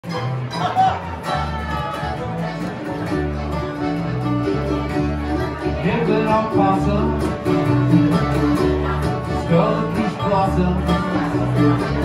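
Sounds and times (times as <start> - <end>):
bluegrass band playing: 0.0 - 12.0
upright bass notes: 0.0 - 12.0.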